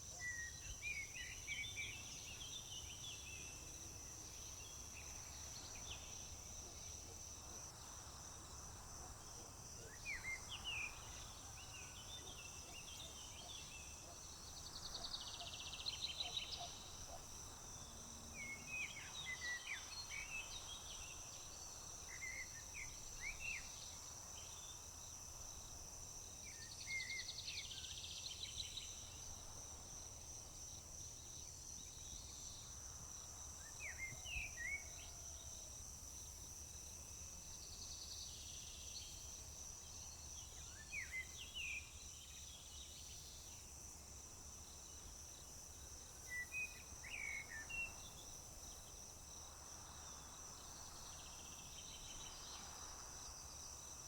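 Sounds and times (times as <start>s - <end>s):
crickets droning: 0.0s - 54.0s.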